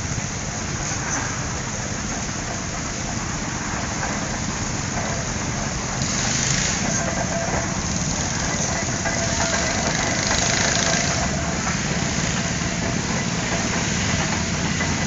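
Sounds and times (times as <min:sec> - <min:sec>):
steady rushing hiss: 0:00.0 - 0:15.0
tractor engines chugging: 0:00.0 - 0:15.0.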